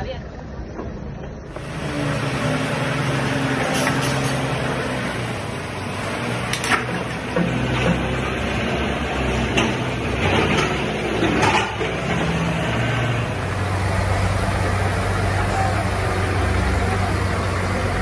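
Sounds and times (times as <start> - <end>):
forklift engine running under load: 0.2 - 18.0.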